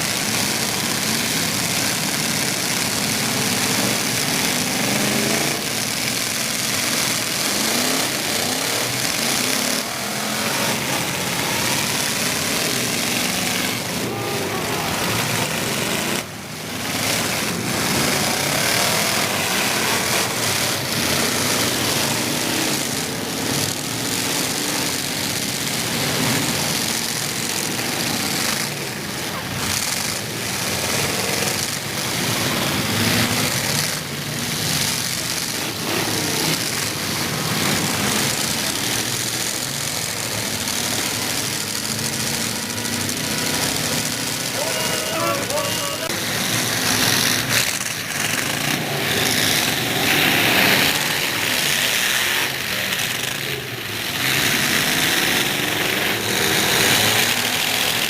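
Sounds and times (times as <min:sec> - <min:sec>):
continuous din: 0:00.0 - 0:58.0
truck engines revving: 0:00.0 - 0:58.0.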